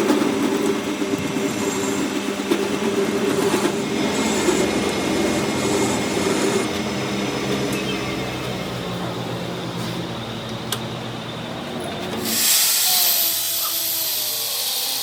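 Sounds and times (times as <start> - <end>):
workshop machinery rattling drone: 0.0 - 15.0.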